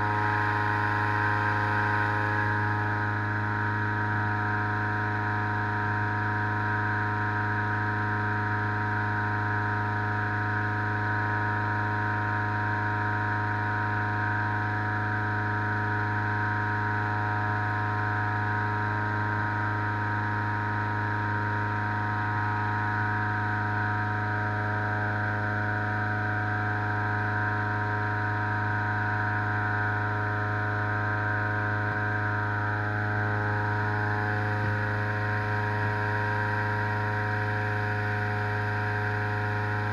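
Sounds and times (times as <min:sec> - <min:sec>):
engine-driven inflator fan running: 0:00.0 - 0:39.9.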